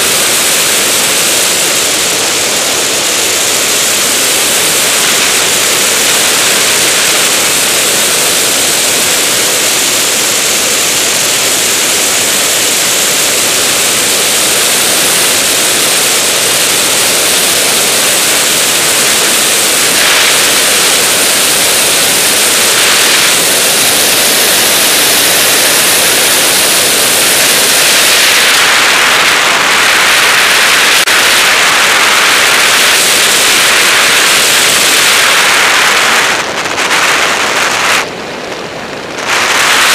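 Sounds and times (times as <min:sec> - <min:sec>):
rushing wind over glider: 0:00.0 - 0:39.9.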